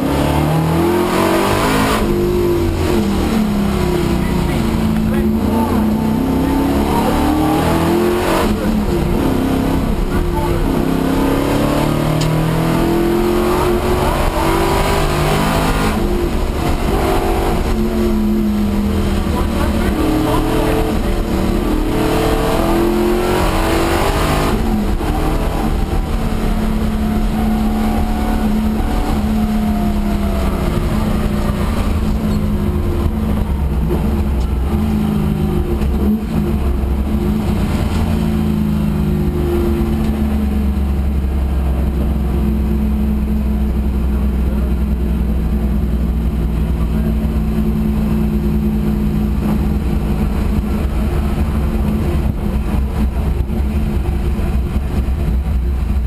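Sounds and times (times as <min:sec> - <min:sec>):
car engine from inside cabin: 0:00.0 - 0:56.0.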